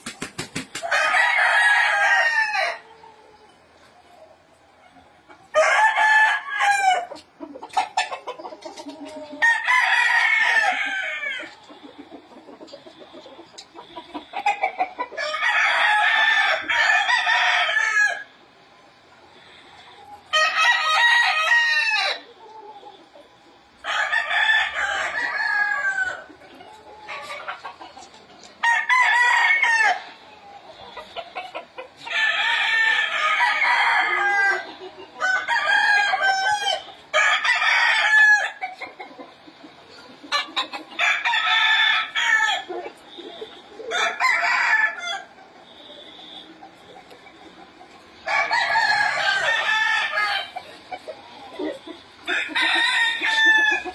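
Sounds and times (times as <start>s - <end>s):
roosters crowing: 0.0s - 3.8s, 4.4s - 18.6s, 19.3s - 53.9s.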